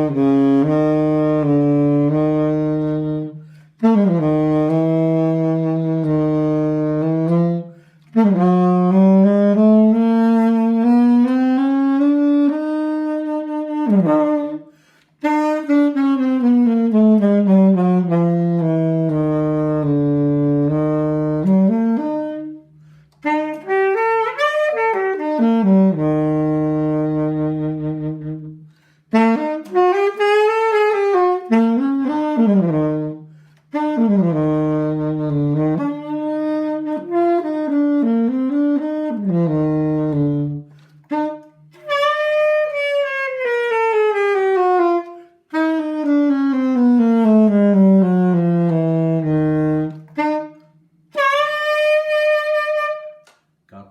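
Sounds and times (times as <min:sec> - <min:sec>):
alto saxophone playing: 0:00.0 - 0:53.9.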